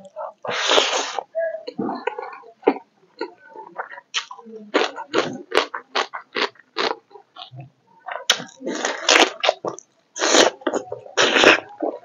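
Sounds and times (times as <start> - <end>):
person chewing with wet smacks: 0.0 - 12.0.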